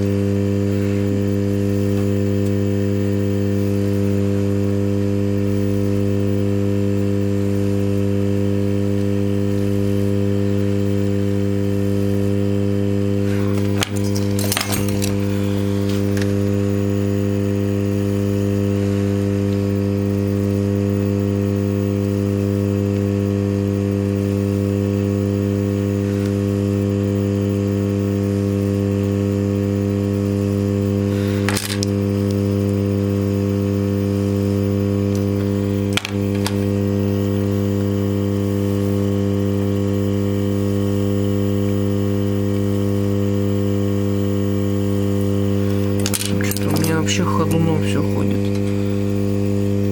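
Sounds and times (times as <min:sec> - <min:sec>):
loud low electrical hum: 0:00.0 - 0:49.9.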